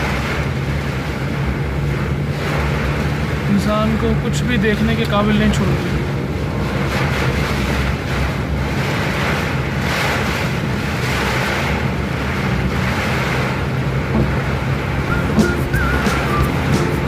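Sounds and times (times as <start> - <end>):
heavy rain rushing: 0.0 - 17.0.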